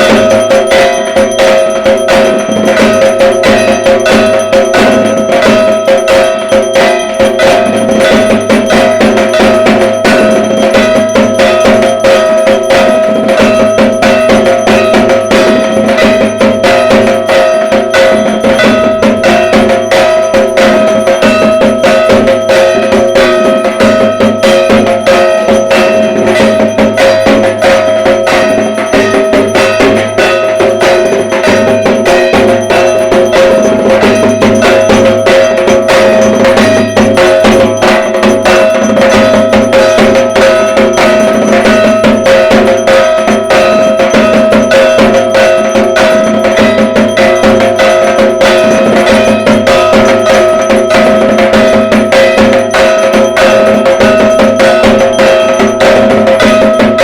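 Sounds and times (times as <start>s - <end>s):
drums beaten fast: 0.0s - 57.0s
metallic ringing: 0.0s - 57.0s.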